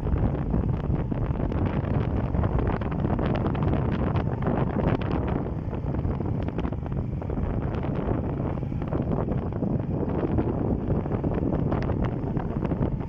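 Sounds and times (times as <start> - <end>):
motorcycle road noise: 0.0 - 13.0
wind rushing over microphone: 0.0 - 13.0.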